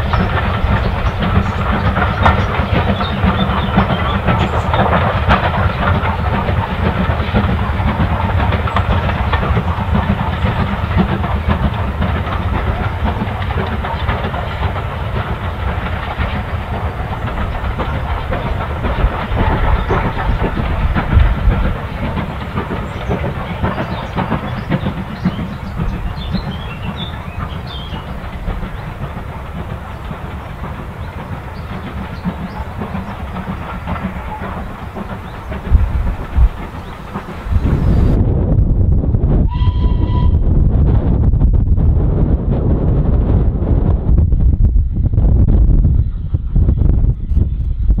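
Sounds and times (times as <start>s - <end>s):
steam locomotive exhaust: 0.0s - 48.0s
train coaches rumbling on rails: 0.0s - 48.0s.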